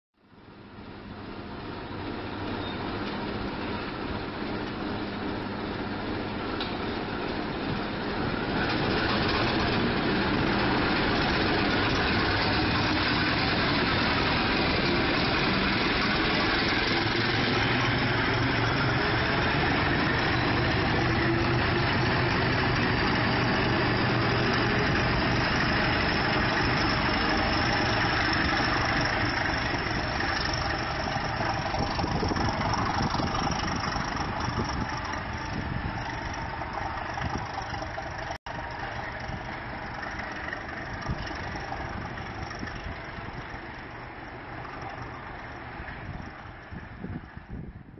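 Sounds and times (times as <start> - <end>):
locomotive diesel engine under load: 0.5 - 47.9.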